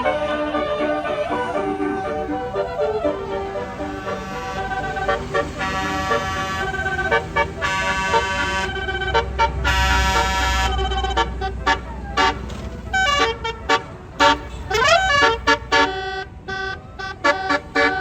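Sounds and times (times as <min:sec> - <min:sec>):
bus engine rumbling: 0:00.0 - 0:18.0
bus musical horn playing tune: 0:00.0 - 0:18.0.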